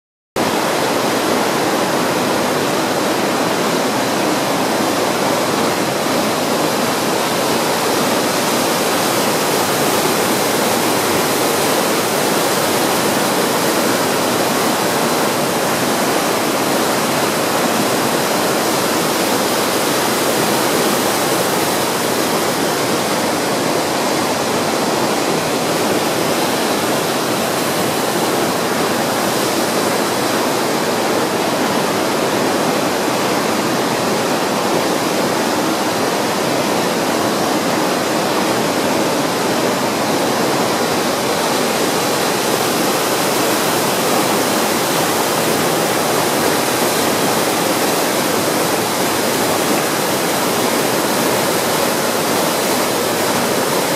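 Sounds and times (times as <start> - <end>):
water rushing over stones: 0.4 - 53.9.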